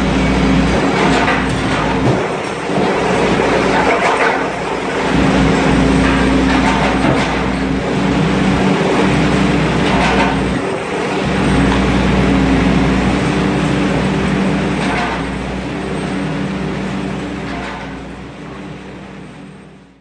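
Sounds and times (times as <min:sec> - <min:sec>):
excavator engine running: 0:00.0 - 0:20.0
machinery clatter: 0:00.0 - 0:20.0
waste shredder running: 0:00.0 - 0:20.0.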